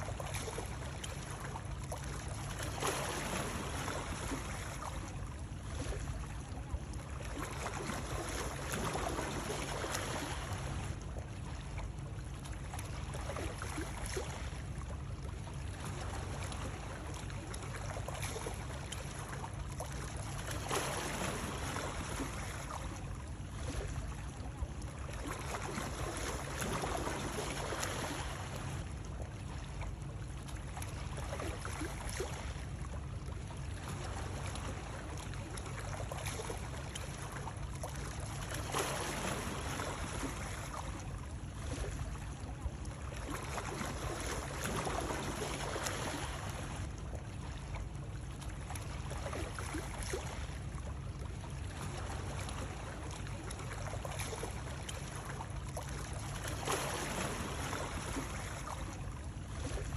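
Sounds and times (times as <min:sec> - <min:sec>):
water rushing and lapping: 0:00.0 - 0:59.9.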